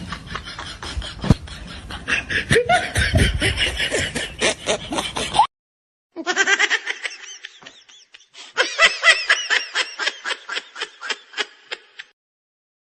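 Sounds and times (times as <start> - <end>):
high-pitched giggling laugh: 0.0 - 5.5, 6.2 - 12.2
people laughing: 0.0 - 5.5, 6.2 - 12.2.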